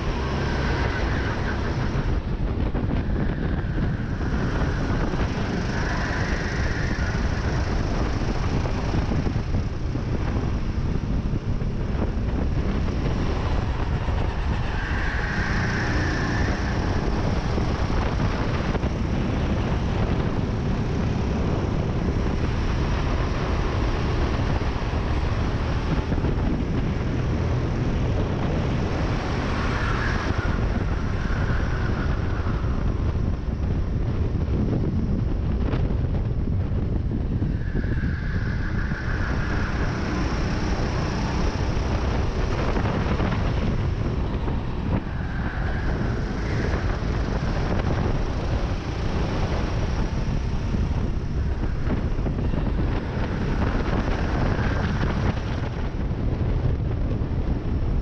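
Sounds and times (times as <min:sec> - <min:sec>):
kart engine running hard: 0:00.0 - 0:58.0
wind noise on microphone: 0:00.0 - 0:58.0.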